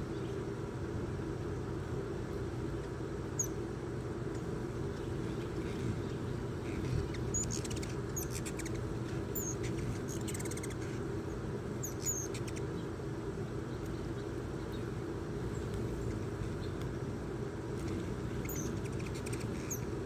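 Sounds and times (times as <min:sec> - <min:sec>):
hummingbirds chipping and chattering: 0:00.0 - 0:20.0
low background hum: 0:00.0 - 0:20.0.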